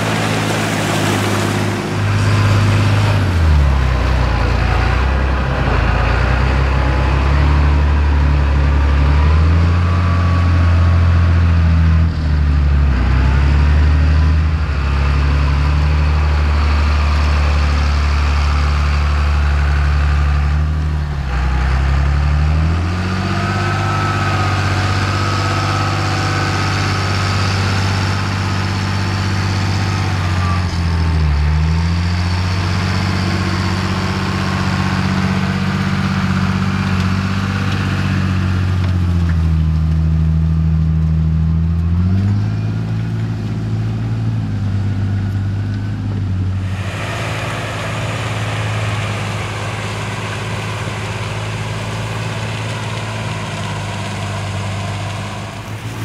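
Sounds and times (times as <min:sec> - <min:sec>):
diesel tractor engine working hard: 0:00.0 - 0:56.0.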